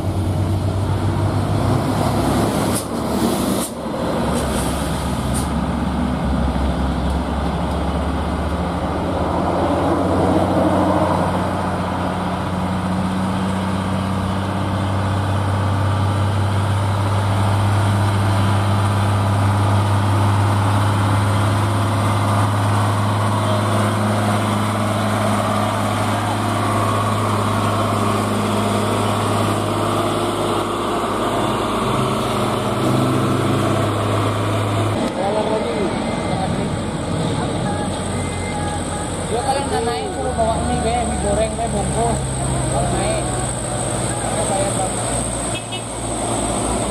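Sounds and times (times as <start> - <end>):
truck diesel engine droning: 0.0 - 46.9.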